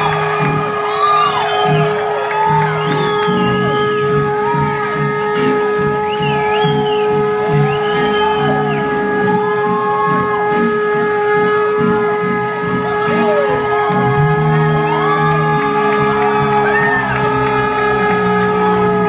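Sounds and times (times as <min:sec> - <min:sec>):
band playing low notes: 0:00.0 - 0:19.0
crowd whooping and yelling: 0:00.0 - 0:19.0
trombone holding a long note: 0:03.4 - 0:19.0.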